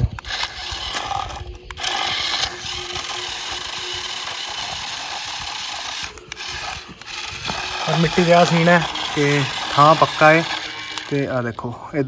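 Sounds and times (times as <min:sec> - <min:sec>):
electric motor and gearbox whirring: 0:00.0 - 0:12.0.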